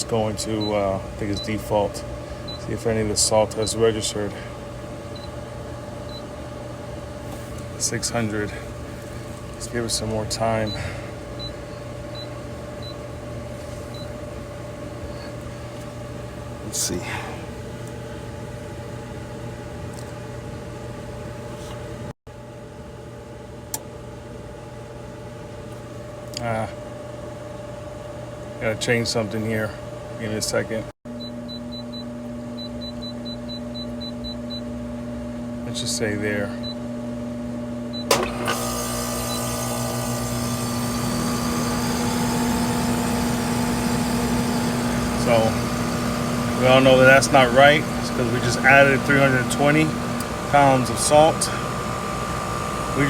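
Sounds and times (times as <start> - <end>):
pool pump motor humming: 0.0 - 22.1, 31.2 - 53.0.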